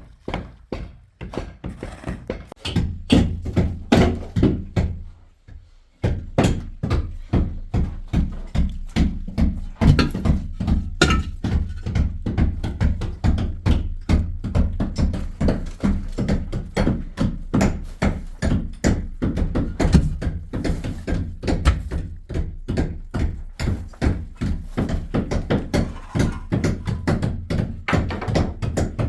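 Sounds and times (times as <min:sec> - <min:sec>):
rapid rhythmic thuds: 0:02.5 - 0:29.0.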